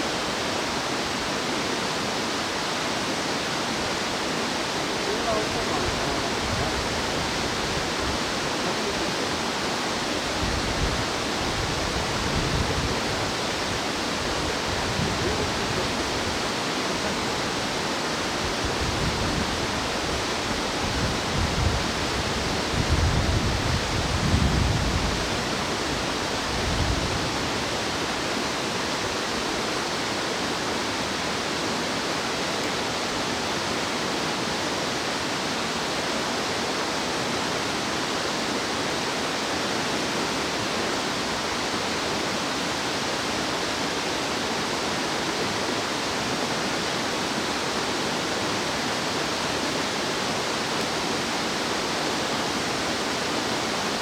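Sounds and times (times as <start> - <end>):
rushing mountain stream: 0.0 - 54.0.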